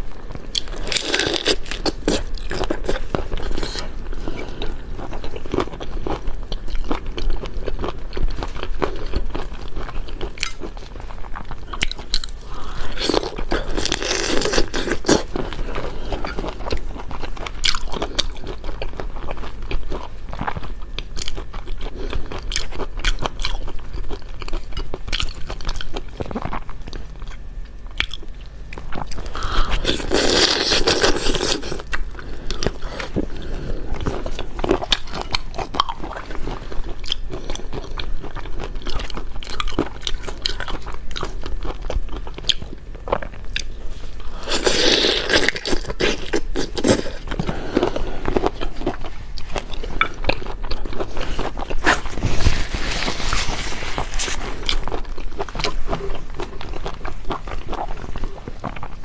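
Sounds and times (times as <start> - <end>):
person chewing with wet crunching: 0.0 - 59.0.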